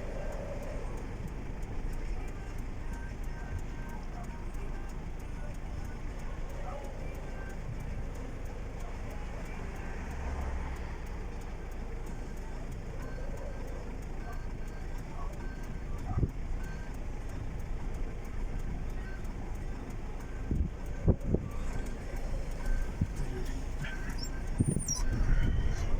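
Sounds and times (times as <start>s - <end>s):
vehicle engines rumbling: 0.0s - 25.9s.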